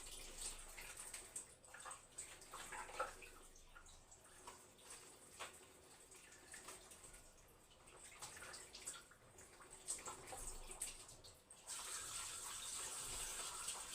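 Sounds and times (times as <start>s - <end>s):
faint water running and splashing: 0.0s - 13.9s.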